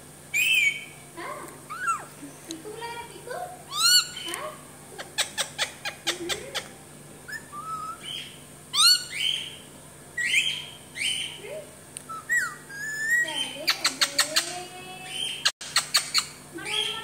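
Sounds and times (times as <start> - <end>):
parakeet calling: 0.3 - 17.0.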